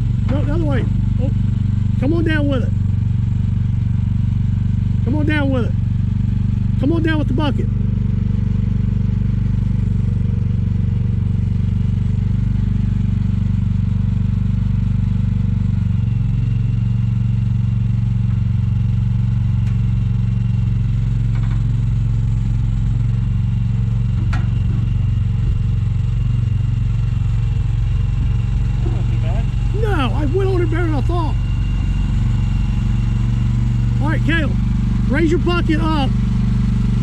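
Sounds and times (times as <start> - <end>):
small diesel engine running: 0.0 - 37.0.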